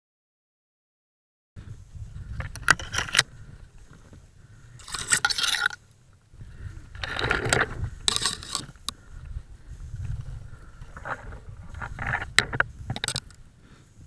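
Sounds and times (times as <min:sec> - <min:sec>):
twigs scraping against clothing: 0:01.8 - 0:13.5.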